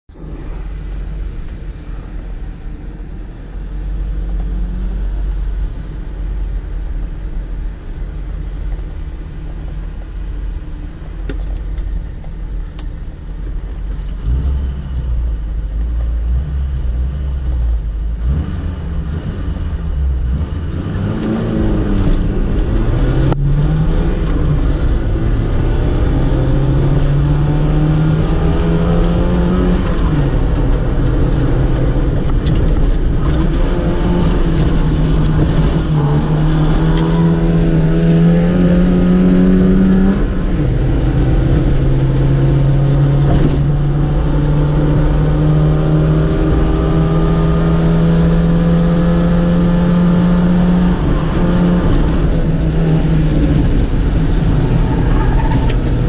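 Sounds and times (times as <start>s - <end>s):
rally car engine revving: 0.1s - 56.0s.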